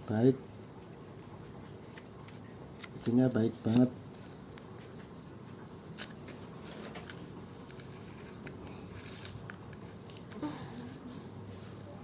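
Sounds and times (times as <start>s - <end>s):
scissors cutting plastic: 1.9s - 12.0s.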